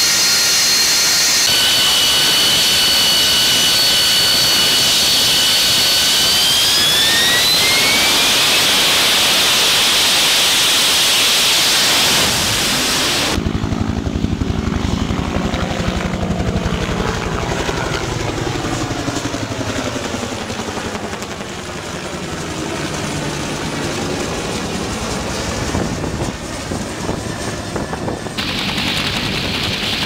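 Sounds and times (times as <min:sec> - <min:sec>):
helicopter rotor chopping: 0:00.0 - 0:30.0
helicopter turbine whine: 0:00.0 - 0:30.0.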